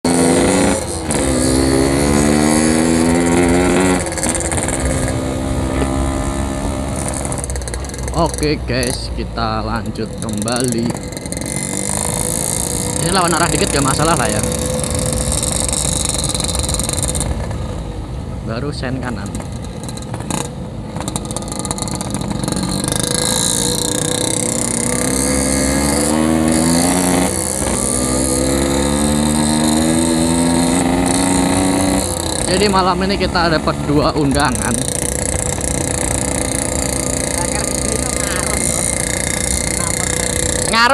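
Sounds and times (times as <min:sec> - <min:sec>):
two-stroke motorcycle engine: 0:00.0 - 0:40.9.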